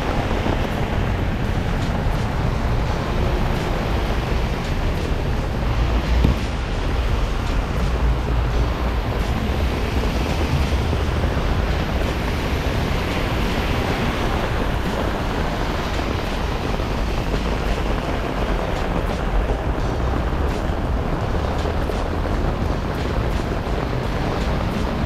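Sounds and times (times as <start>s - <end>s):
heavy rain on an umbrella: 0.0s - 25.0s
low rumble: 0.0s - 25.0s.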